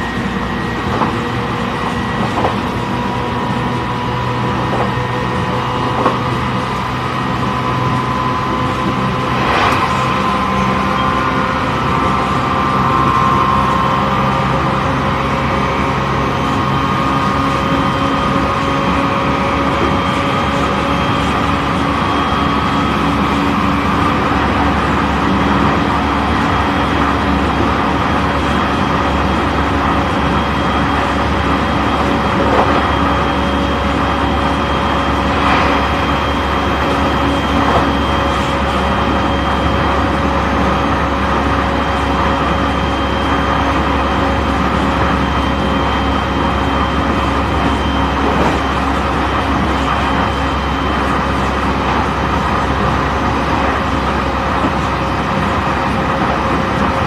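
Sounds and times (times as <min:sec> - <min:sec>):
electric train running: 0:00.0 - 0:57.0.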